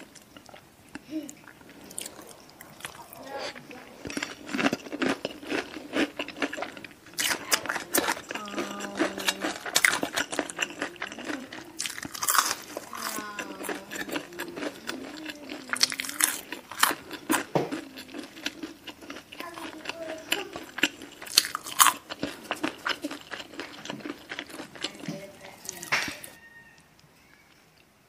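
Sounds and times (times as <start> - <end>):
crunching fried chicken: 0.0 - 27.9.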